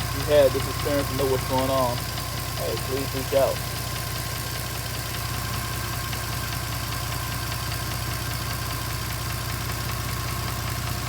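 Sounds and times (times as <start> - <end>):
car engine idling: 0.0 - 11.0
engine knocking: 0.0 - 11.0
fast engine ticking: 0.0 - 11.0.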